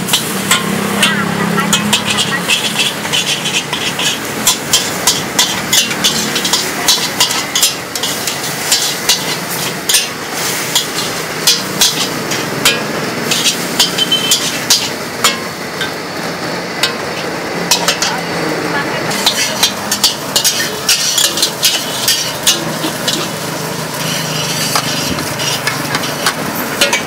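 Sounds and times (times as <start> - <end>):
metal spatula clanking on wok: 0.0 - 16.0, 16.8 - 27.0
food sizzling: 0.0 - 27.0.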